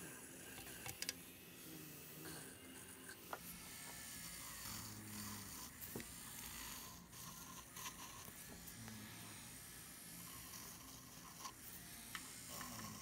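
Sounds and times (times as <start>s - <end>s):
electric nail drill rasping: 0.0s - 13.0s.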